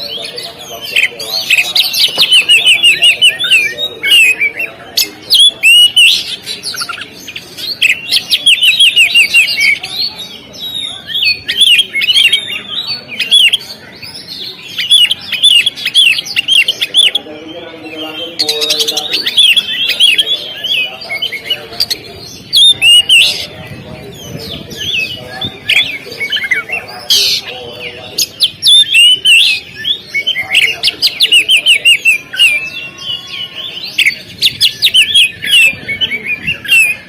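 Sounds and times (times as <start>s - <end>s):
bird singing: 0.0s - 37.0s.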